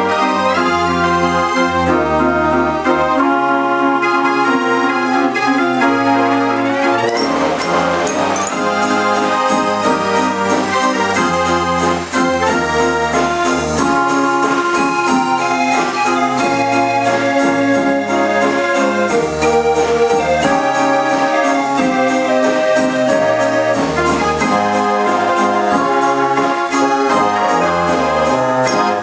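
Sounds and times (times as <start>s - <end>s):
street organ playing a tune: 0.0s - 29.0s.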